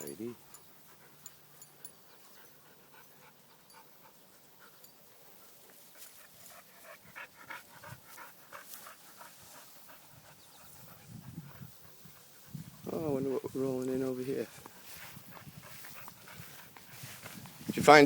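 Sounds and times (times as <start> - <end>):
dog panting: 0.2 - 17.3.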